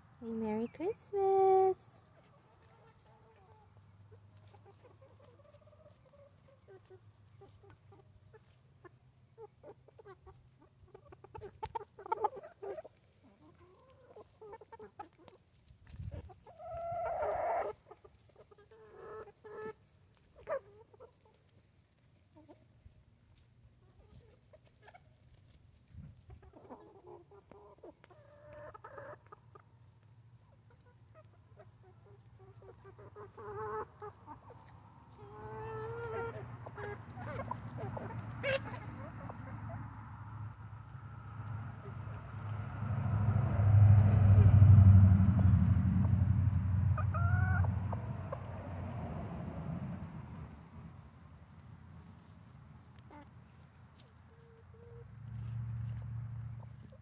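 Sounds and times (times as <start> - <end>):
hens clucking: 0.4 - 50.5, 51.5 - 57.0.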